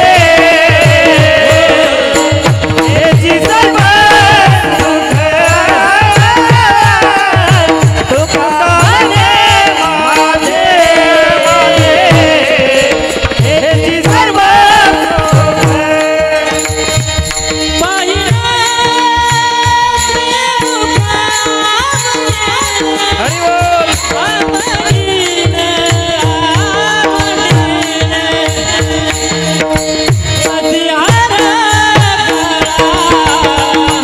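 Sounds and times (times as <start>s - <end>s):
jingling percussion: 0.0s - 34.0s
man singing devotional song: 0.0s - 34.0s.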